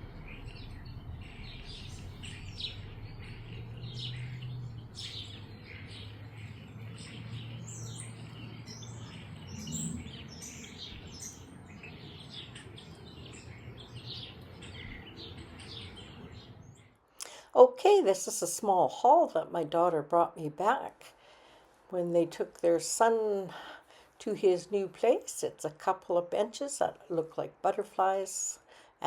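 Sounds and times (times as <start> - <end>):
low steady hum: 0.0 - 28.2
songbirds chirping: 0.0 - 28.8.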